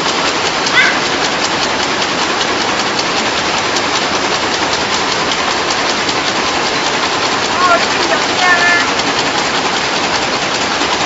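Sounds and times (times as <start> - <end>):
machine mechanism clattering: 0.0 - 11.0
steady machine noise: 0.0 - 11.0.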